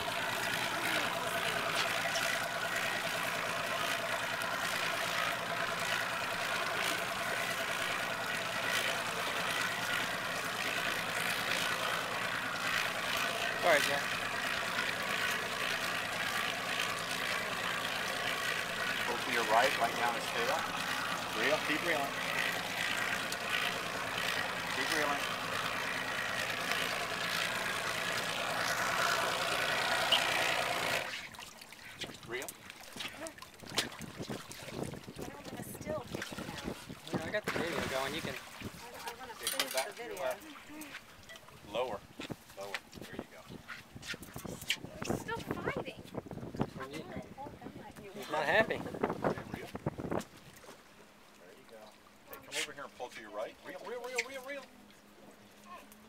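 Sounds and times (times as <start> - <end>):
outboard motor idling: 0.0 - 56.0.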